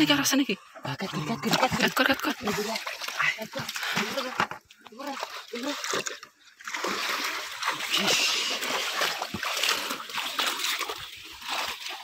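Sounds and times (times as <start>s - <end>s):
pond water splashing and sloshing: 0.0s - 12.0s.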